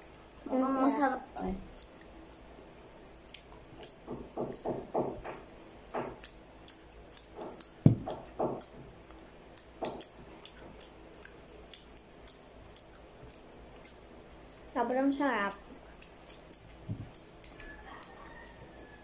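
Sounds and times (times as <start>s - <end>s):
children chewing: 0.0s - 19.0s.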